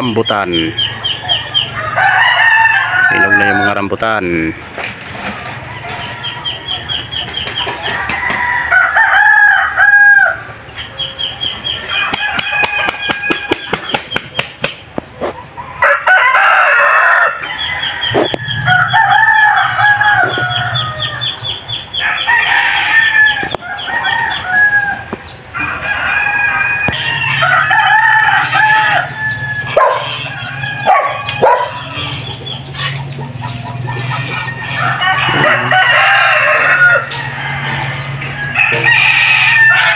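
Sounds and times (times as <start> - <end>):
hens clucking: 0.0 - 9.1, 10.5 - 39.9
roosters crowing: 0.0 - 39.9.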